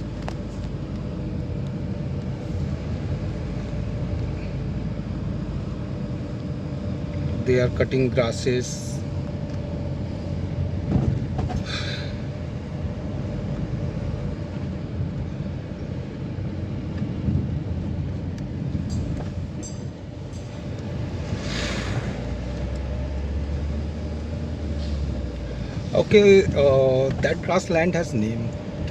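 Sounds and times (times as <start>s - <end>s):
vehicle engine and road rumble: 0.0s - 28.9s.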